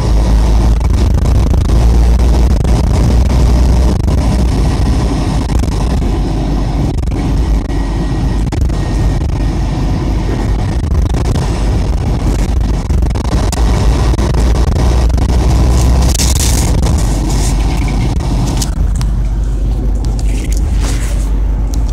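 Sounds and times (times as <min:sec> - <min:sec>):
traffic rumble: 0:00.0 - 0:21.9.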